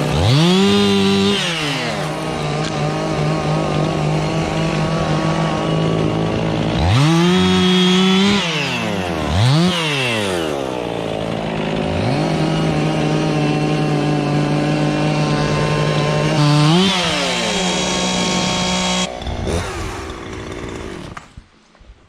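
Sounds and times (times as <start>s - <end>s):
chainsaw engine revving: 0.0s - 21.5s.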